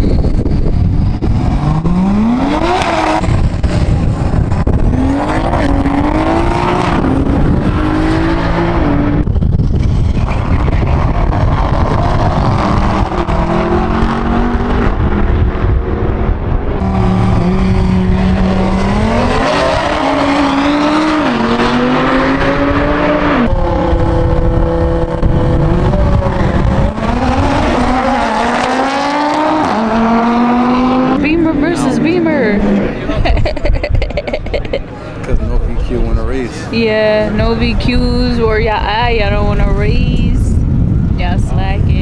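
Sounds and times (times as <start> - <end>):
race car engines revving: 0.0 - 42.0.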